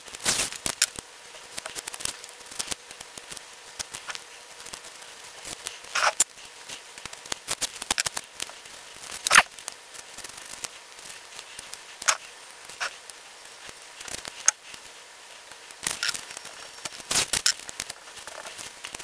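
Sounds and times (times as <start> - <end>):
tape crackling and clicking: 0.0 - 19.0.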